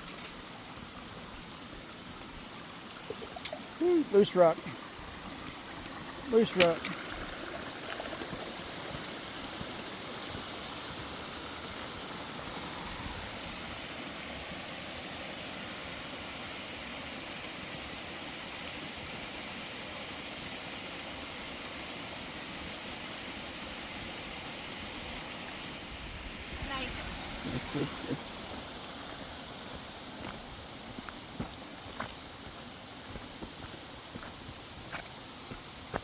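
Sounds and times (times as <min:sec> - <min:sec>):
creek water rushing over rocks: 0:00.0 - 0:36.0.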